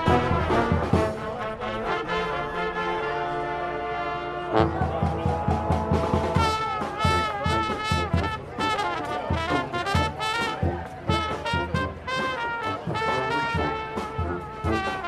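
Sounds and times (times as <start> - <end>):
brass marching band playing: 0.0 - 15.0.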